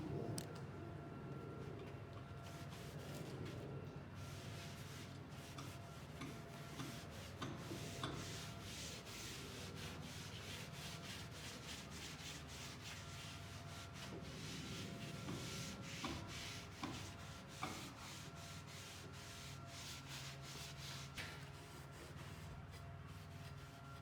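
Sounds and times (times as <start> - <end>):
rubbing strokes on a surface: 4.2 - 23.9.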